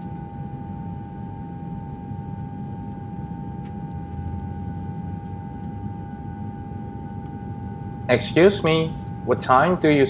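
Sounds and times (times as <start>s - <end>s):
airliner cabin drone: 0.0s - 10.0s.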